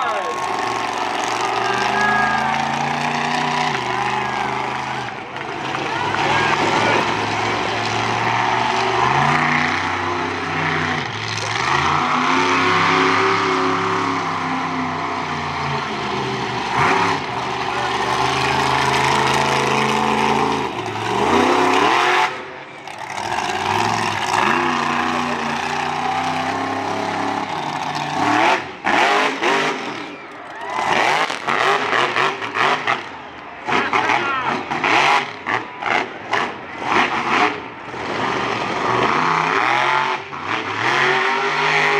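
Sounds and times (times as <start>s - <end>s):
monster truck engine revving: 0.0s - 41.9s.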